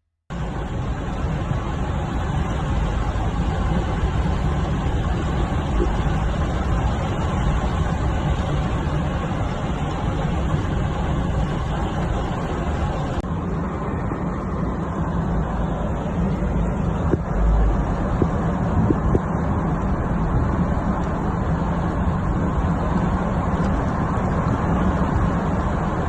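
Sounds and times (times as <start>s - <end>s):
street traffic rumble: 0.3s - 26.0s.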